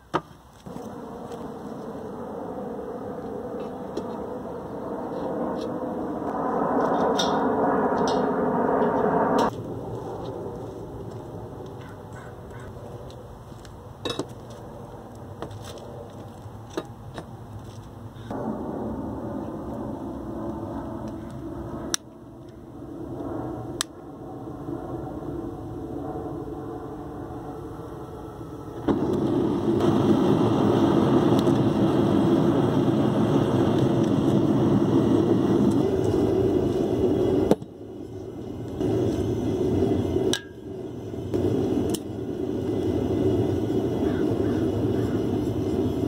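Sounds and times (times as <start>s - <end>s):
gas burner roaring: 0.0s - 46.0s.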